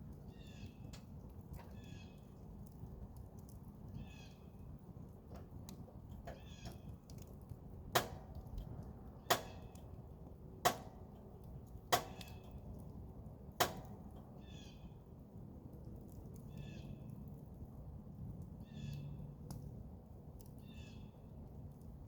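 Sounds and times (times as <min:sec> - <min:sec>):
campfire burning: 0:00.0 - 0:22.0
sharp cracks of fire: 0:00.0 - 0:22.0.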